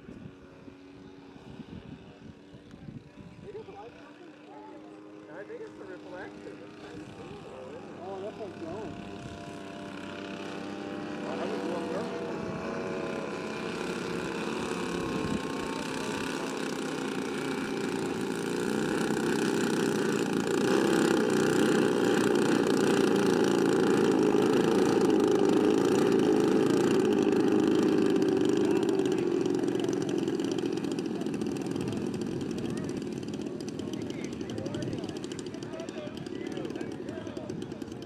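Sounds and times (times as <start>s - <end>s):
model plane engines humming: 0.0s - 38.0s.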